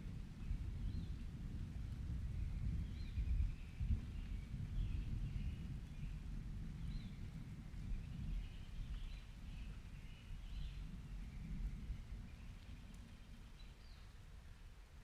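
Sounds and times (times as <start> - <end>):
low storm rumble: 0.0 - 15.0.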